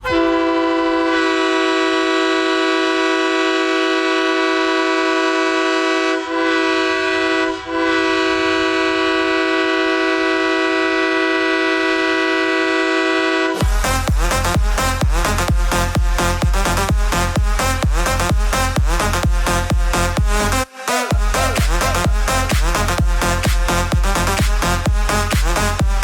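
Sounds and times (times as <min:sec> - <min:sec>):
goal horn blast: 0:00.0 - 0:26.0.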